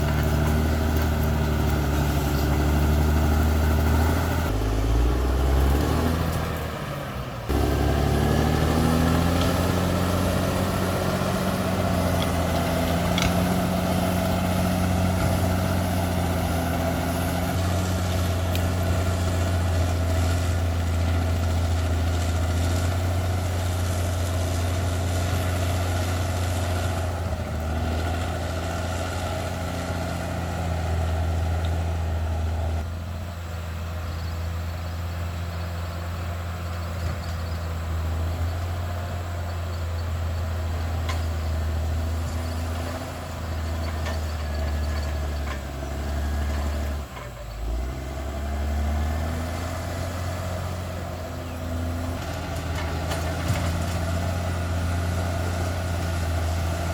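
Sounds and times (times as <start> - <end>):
bulldozer diesel engine droning: 0.0 - 56.9.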